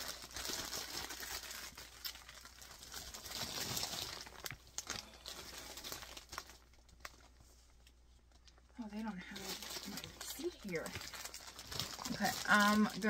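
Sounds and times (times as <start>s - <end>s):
plastic mailer bag crinkling: 0.0s - 13.0s.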